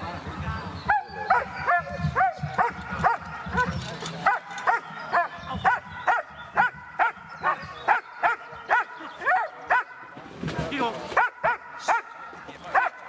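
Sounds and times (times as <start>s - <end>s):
dog barking: 0.9s - 10.1s, 11.2s - 13.0s.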